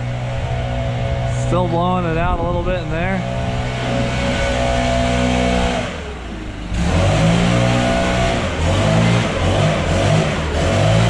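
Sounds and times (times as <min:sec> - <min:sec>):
leaf blower engine revving: 0:00.0 - 0:11.0.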